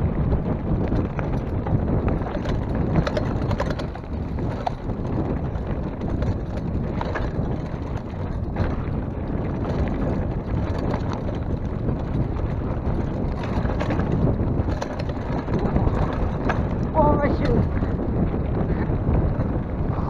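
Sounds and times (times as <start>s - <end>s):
bike rattling on stones: 0.0s - 20.0s
wind noise on microphone: 0.0s - 20.0s
bike tyres crunching on gravel: 0.1s - 19.9s.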